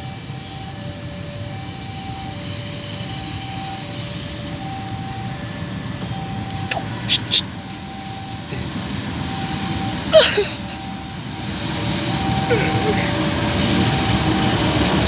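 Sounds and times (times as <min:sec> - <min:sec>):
level-crossing alarm two tones: 0:00.0 - 0:15.0.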